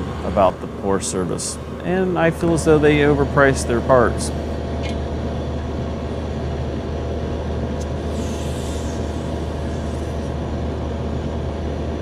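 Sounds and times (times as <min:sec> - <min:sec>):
refrigeration compressor humming: 0:00.0 - 0:12.0.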